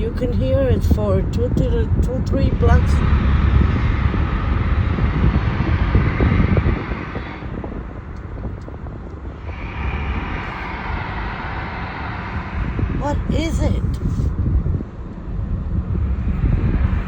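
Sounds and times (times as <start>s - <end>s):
loud deep rumbling: 0.0s - 17.0s.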